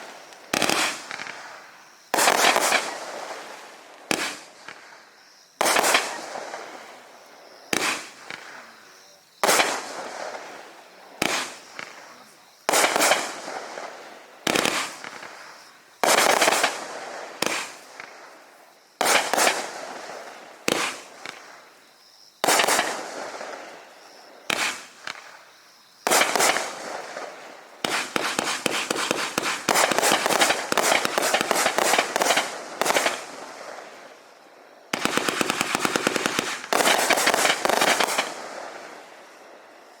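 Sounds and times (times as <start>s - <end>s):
rapid volleys of firework cracks: 0.0s - 5.0s, 5.6s - 8.8s, 9.4s - 21.8s, 22.4s - 39.8s
firework shots with crackling tail: 0.0s - 21.8s, 22.4s - 39.8s.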